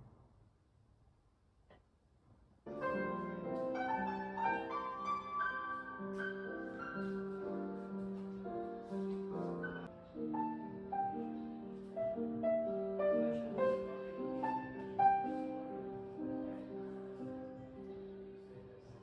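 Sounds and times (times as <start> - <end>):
slow gentle piano melody: 2.7 - 19.0.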